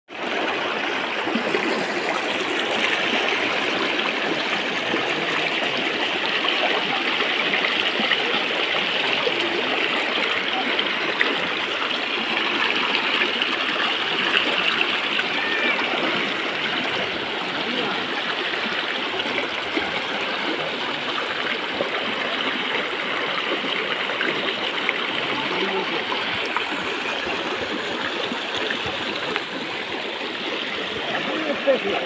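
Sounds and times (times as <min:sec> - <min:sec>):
river water rushing over rocks: 0:00.1 - 0:32.0.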